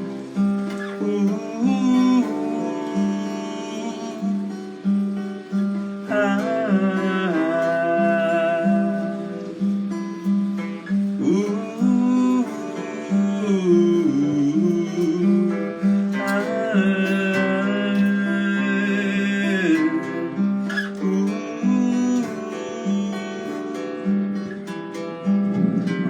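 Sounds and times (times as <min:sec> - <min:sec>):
acoustic guitar picking: 0:00.0 - 0:26.0.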